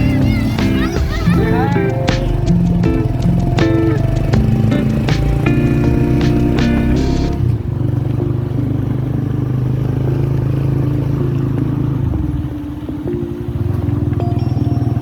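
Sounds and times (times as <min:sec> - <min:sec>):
vehicle engine running: 0:00.0 - 0:14.2.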